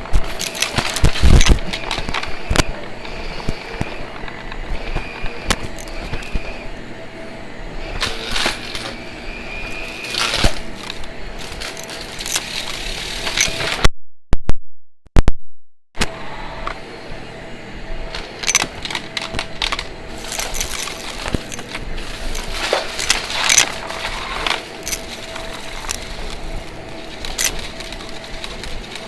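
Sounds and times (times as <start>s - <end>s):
vacuum cleaner running: 0.0s - 13.8s, 16.0s - 29.0s.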